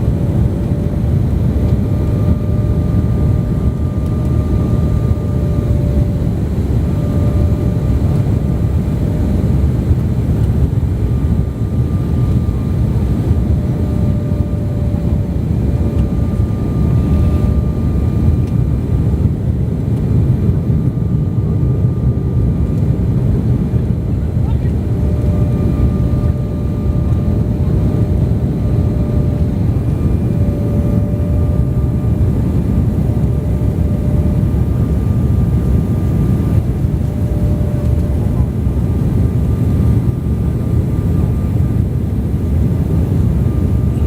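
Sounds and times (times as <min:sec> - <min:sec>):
airliner engine rumble: 0:00.0 - 0:44.0
faint steady whine: 0:00.0 - 0:44.0.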